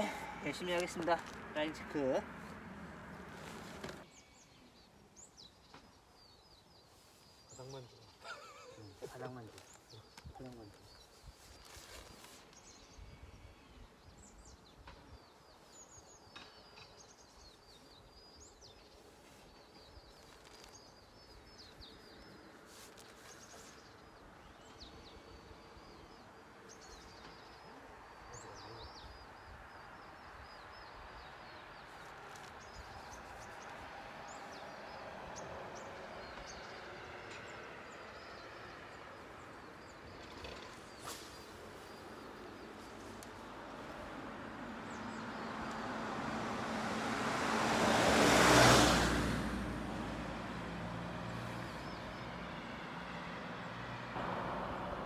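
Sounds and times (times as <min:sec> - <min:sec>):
small birds chirping: 0:00.0 - 0:46.0, 0:51.3 - 0:53.7.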